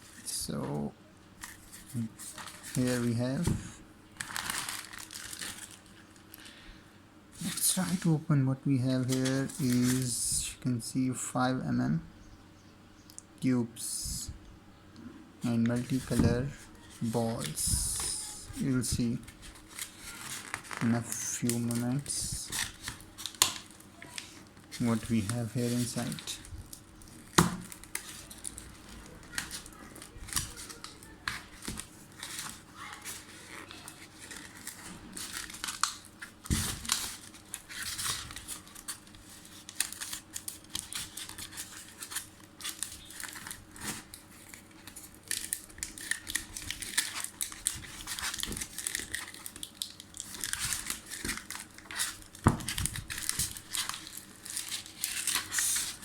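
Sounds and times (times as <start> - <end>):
packaging crinkling and tearing: 1.4 - 6.6, 9.1 - 10.1, 15.6 - 56.0.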